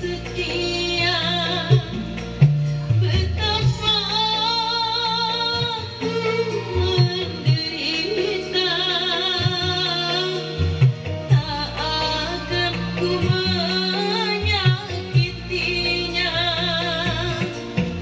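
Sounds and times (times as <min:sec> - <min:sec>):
backing track with bass line: 0:00.0 - 0:18.0
person singing with vibrato: 0:00.0 - 0:18.0.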